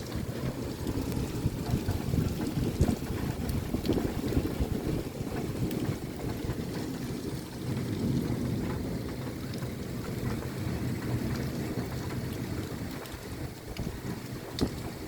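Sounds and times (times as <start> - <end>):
faint ticks of raindrops: 0.0 - 15.0
heavy rain on windows: 0.0 - 15.0.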